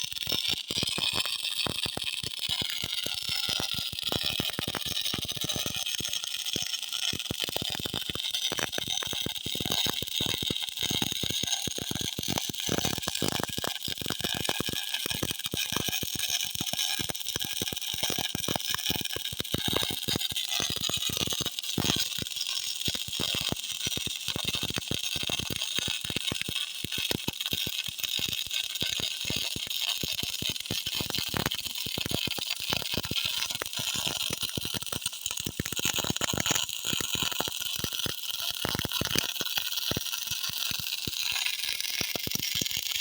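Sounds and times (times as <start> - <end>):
welding arc crackling: 0.0 - 43.0.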